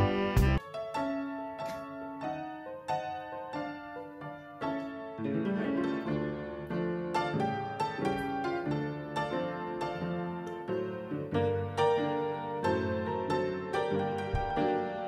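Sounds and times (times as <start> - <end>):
piano playing light melody: 0.0 - 15.0.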